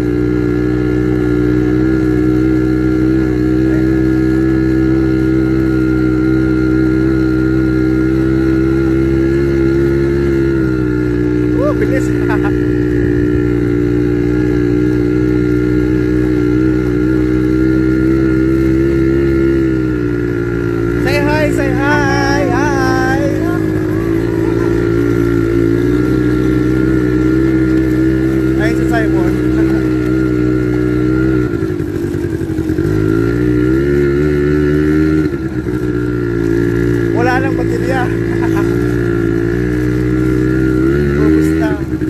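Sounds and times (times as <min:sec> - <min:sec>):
quad bike engine running: 0:00.0 - 0:42.0.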